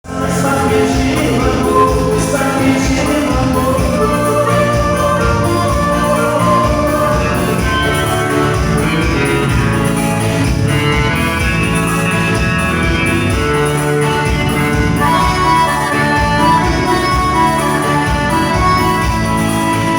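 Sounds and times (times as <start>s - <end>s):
live band instrumental music: 0.1s - 19.9s.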